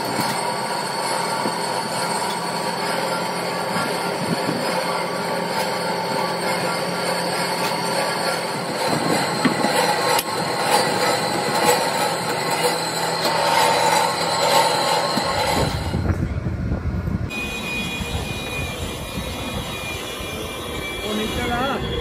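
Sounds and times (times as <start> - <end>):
workshop machinery whining: 0.0 - 22.0.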